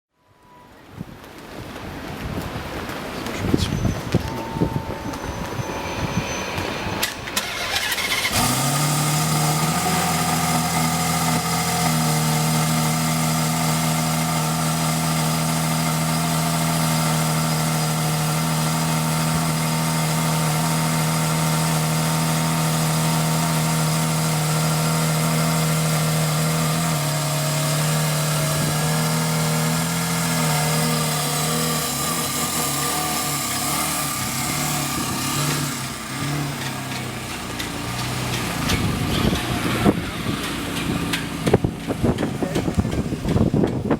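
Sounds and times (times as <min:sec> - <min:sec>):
starter motor cranking: 0:07.0 - 0:43.9
car engine idling: 0:07.1 - 0:43.9.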